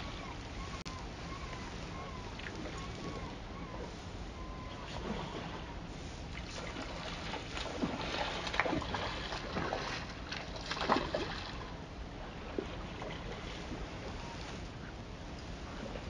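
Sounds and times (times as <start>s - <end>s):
water: 0.0s - 16.0s
wind: 0.0s - 16.0s.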